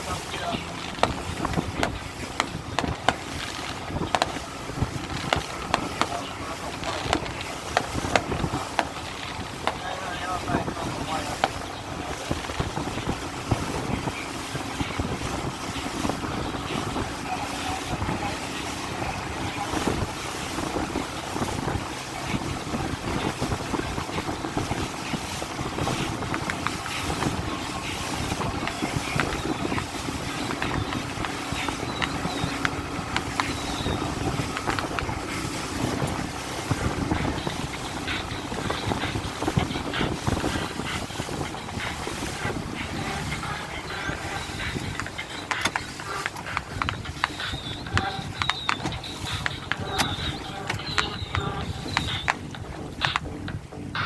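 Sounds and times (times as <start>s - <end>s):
motorboat engine running: 0.0s - 54.0s
wind rumbling on microphone: 0.0s - 54.0s.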